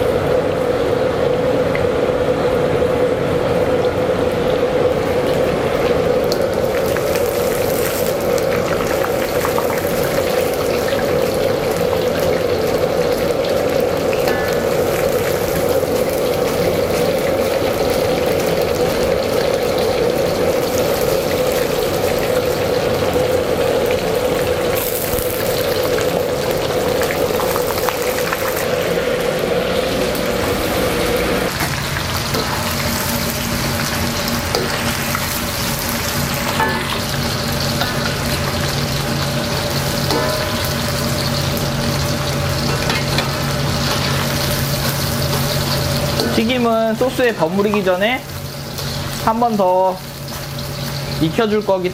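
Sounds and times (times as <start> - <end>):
chicken sizzling in hot oil: 0.0 - 51.9.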